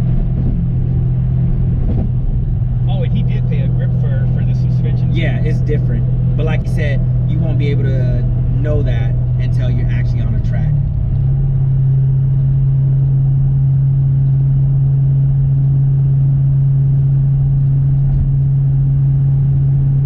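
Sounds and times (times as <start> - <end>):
car engine droning steadily: 0.0 - 20.0.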